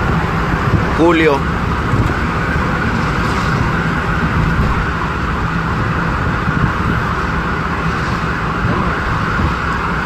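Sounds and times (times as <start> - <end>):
road and engine noise in car: 0.0 - 10.0.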